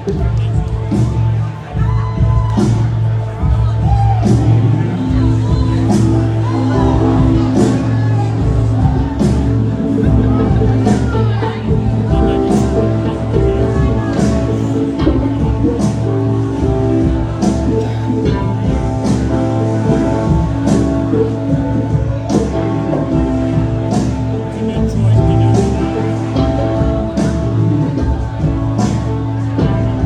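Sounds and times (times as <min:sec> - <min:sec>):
live band playing slow song: 0:00.0 - 0:30.0.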